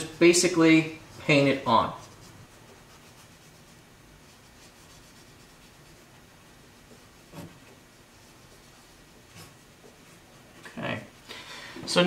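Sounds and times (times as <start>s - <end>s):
swab rubbing on surface: 0.0s - 11.2s.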